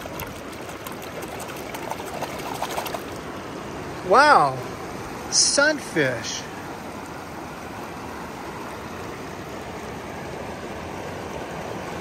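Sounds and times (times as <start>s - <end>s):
river water running over rocks: 0.0s - 12.0s.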